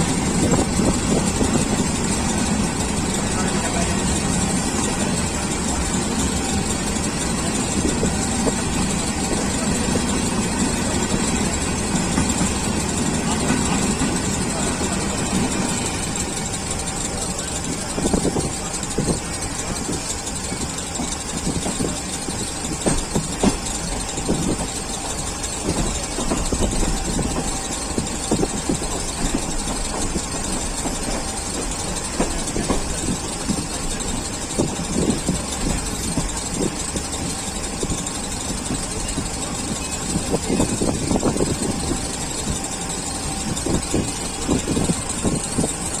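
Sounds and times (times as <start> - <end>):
train rumble: 0.0 - 46.0
wheels clattering and knocking: 0.0 - 46.0.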